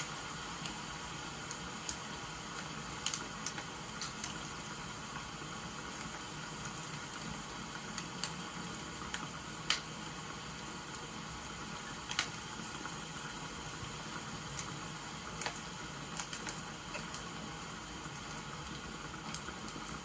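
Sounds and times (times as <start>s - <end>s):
rain hiss: 0.0s - 20.0s
wood fire crackling and popping: 0.0s - 20.0s.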